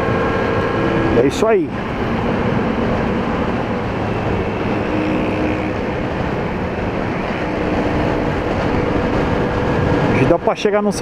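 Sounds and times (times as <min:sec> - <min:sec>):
motorcycle engine cruising: 0:00.0 - 0:11.0
wind rushing over microphone: 0:00.0 - 0:11.0.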